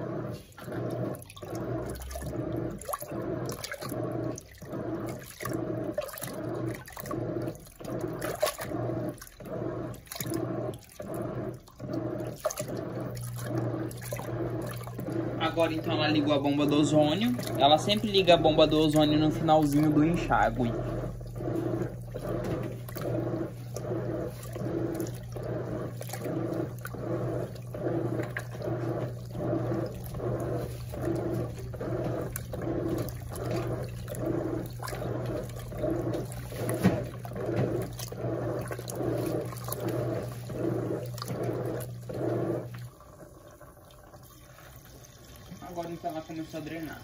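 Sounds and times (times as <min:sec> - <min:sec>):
steady electric hum: 0:00.0 - 0:47.0
water swishing in washing machine: 0:00.0 - 0:47.0.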